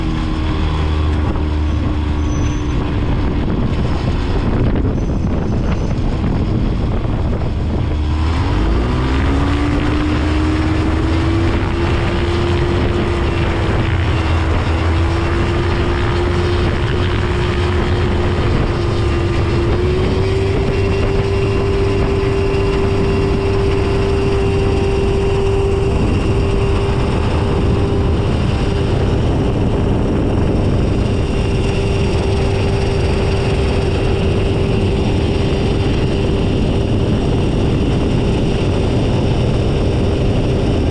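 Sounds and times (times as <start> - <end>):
ultralight engine and propeller: 0.0 - 40.9.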